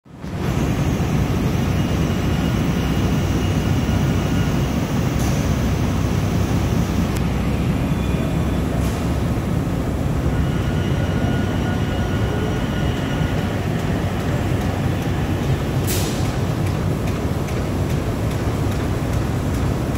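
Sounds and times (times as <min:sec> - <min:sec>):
dense low machine noise: 0:00.1 - 0:19.9.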